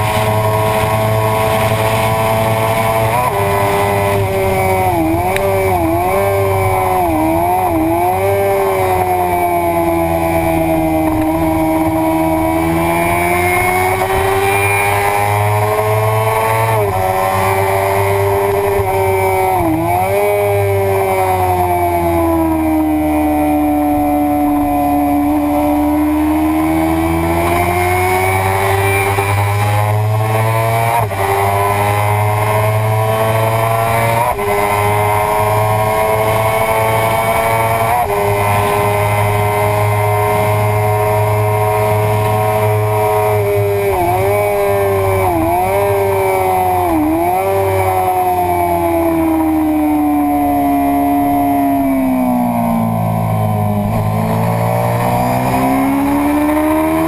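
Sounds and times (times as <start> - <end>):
wind rumble: 0.0 - 49.3
motorcycle engine revving hard: 0.0 - 57.0.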